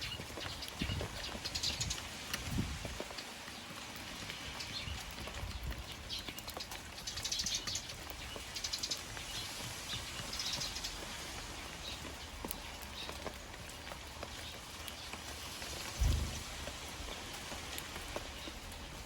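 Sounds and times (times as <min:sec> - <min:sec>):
sparrows chirping: 0:00.0 - 0:02.3, 0:03.5 - 0:17.4
rain pattering: 0:00.0 - 0:19.0.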